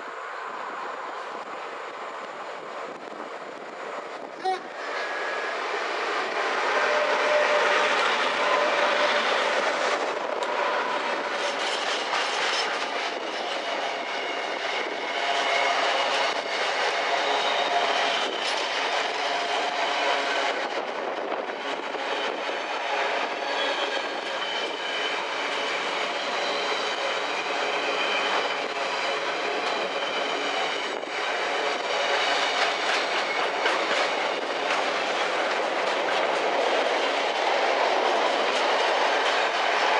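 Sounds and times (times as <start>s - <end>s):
faint ringing from wheels and rails: 0.0s - 39.9s
train wheels clattering over rail joints: 5.8s - 39.9s.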